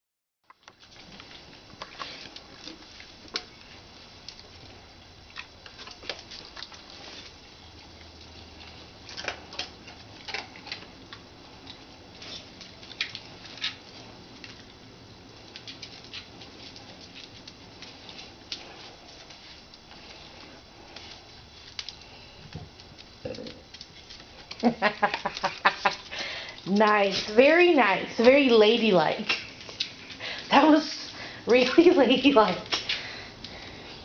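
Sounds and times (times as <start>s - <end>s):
dog eating with crunching: 0.5s - 34.0s.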